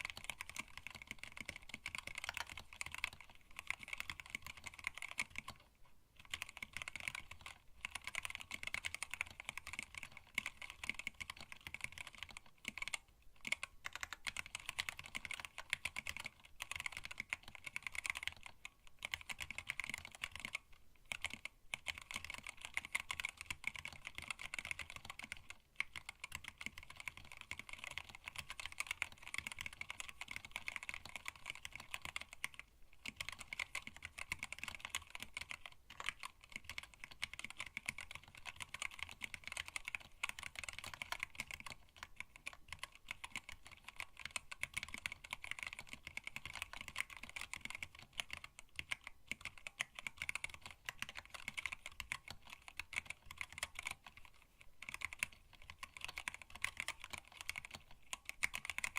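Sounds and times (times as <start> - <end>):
fast typing on mechanical keyboard: 0.0 - 58.9.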